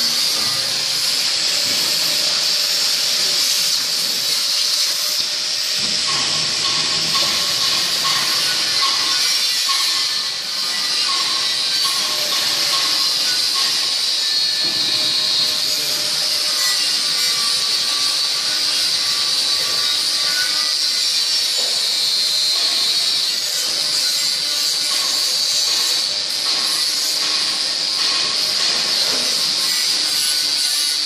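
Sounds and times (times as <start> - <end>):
loud high-pitched hiss: 0.0 - 31.0.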